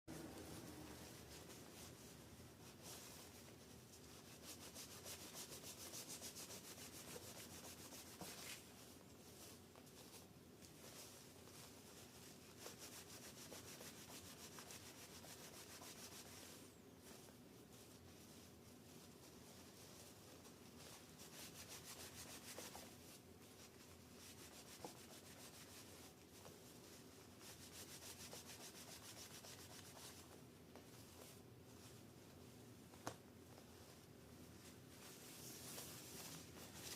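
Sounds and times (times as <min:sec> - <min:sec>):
tissue rubbing on metal: 0:00.1 - 0:36.9.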